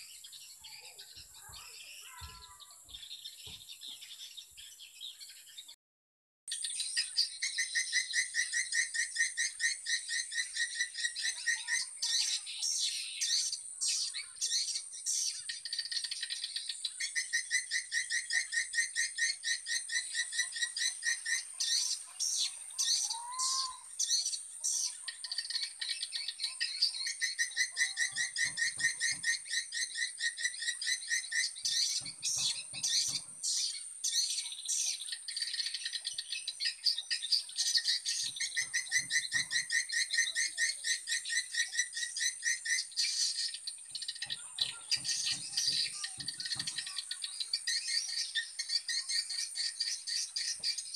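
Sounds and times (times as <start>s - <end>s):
rattling bird chirp trills: 6.5s - 50.9s.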